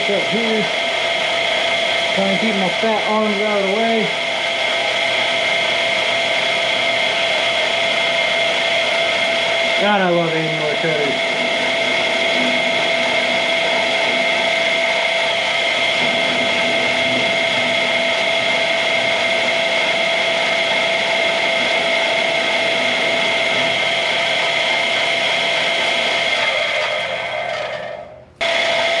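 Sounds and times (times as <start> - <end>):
drill cutting through steel: 0.0 - 29.0.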